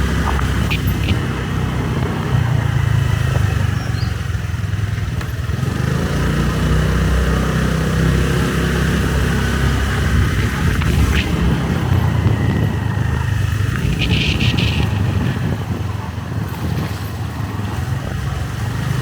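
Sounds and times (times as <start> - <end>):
motorbike engine running: 0.0 - 19.0
road and wind noise: 0.0 - 19.0.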